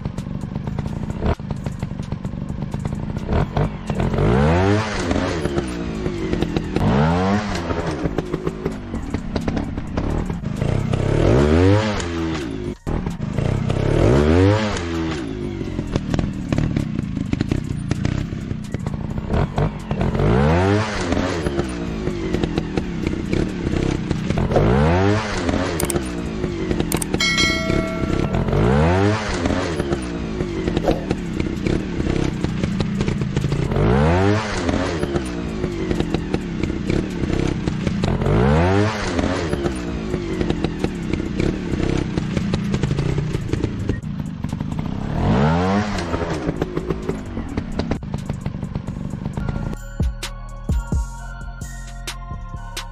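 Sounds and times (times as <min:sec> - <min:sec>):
engine clatter: 0:00.0 - 0:49.8
motorcycle engine revving: 0:00.0 - 0:49.8.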